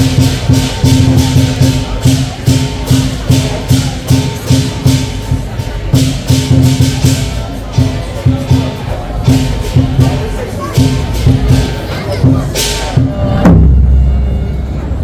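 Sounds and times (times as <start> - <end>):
cymbals clashing: 0.0 - 15.0
drum pounding: 0.0 - 15.0.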